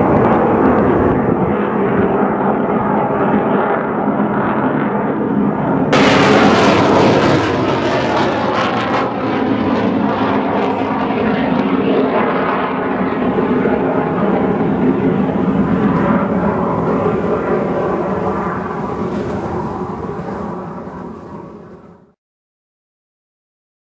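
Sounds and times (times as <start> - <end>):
jet fighter engine passing: 0.0 - 22.2.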